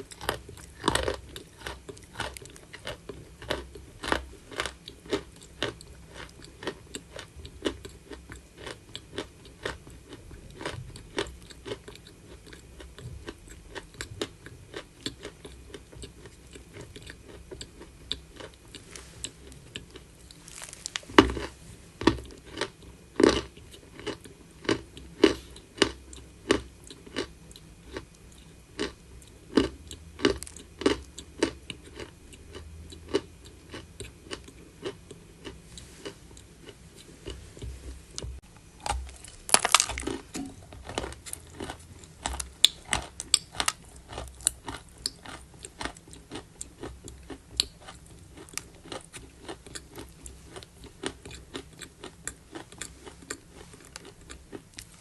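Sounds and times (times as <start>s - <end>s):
chalk crunching while chewed: 0.0s - 55.0s.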